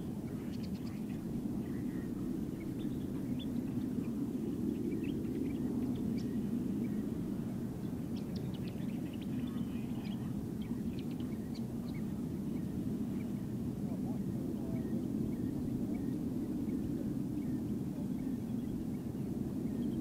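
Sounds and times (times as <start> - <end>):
jet engines rumbling: 0.0 - 20.0
small birds chirping: 0.0 - 20.0.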